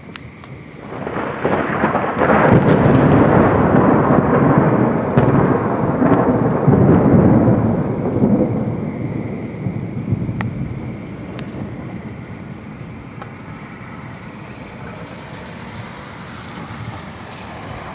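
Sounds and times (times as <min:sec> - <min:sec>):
steady rain: 0:00.0 - 0:17.9
rolling thunder: 0:00.6 - 0:17.9.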